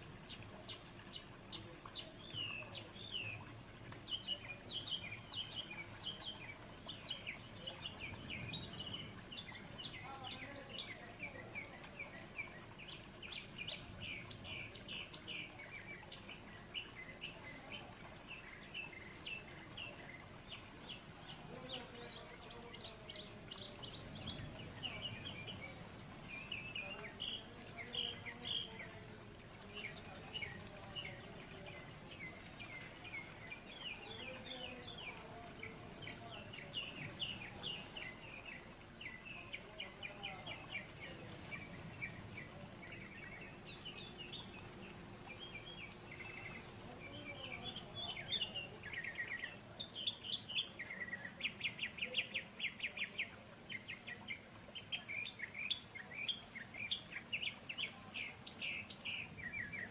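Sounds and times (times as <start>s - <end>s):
faint background hiss: 0.0s - 59.9s
small birds chirping: 0.0s - 59.9s.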